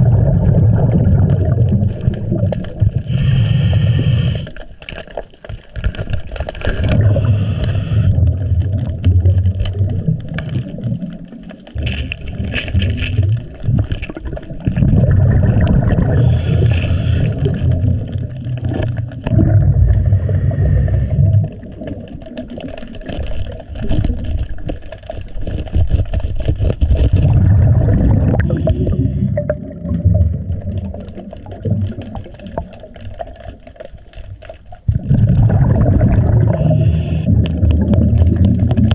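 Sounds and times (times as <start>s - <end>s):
diver exhaling bubbles underwater: 0.0s - 4.6s, 6.6s - 24.6s, 27.0s - 33.8s, 34.8s - 38.9s.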